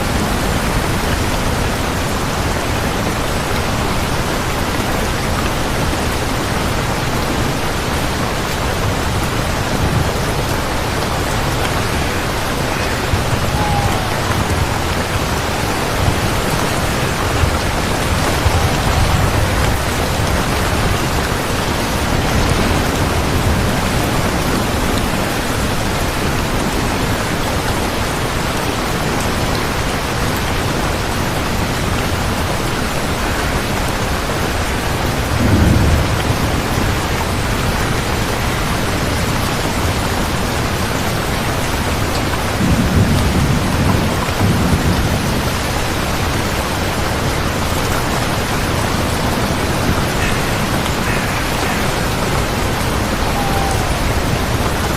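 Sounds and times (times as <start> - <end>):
thunder rumbling: 0.0 - 27.6, 35.0 - 39.9, 42.5 - 54.9
heavy rain: 0.0 - 54.9.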